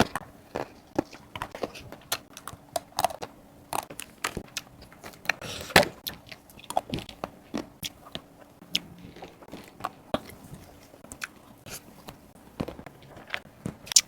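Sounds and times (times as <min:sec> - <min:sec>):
crunching chocolate ice cream bar: 0:00.0 - 0:14.0.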